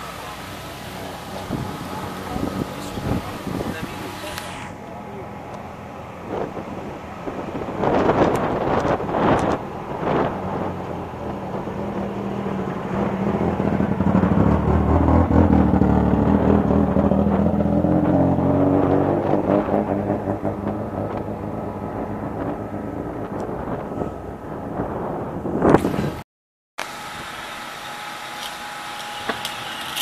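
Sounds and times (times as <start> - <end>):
car engine running at low speed: 0.0 - 26.2.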